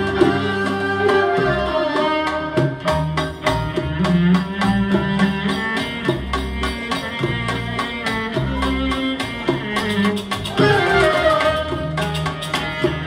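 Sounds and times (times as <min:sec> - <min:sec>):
solo cello: 0:00.0 - 0:13.0
steady drum beat: 0:00.0 - 0:13.0
string section: 0:00.0 - 0:13.0.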